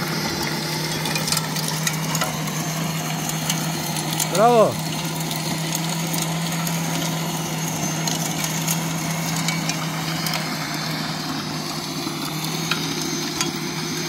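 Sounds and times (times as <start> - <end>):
electric tiller motor hum: 0.0 - 14.0.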